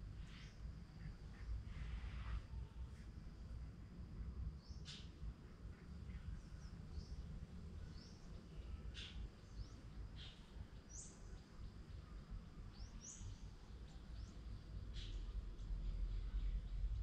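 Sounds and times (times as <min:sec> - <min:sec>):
faint low background rumble: 0:00.0 - 0:17.0.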